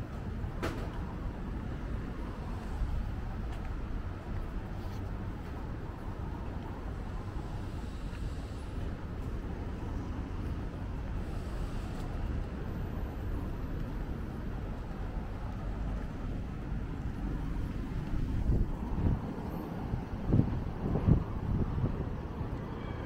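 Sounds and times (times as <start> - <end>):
rumble of cars passing: 0.0 - 23.0.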